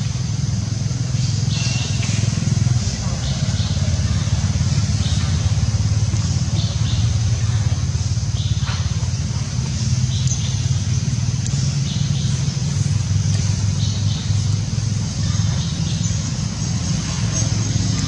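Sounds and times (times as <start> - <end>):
low engine-like rumble: 0.0 - 18.0.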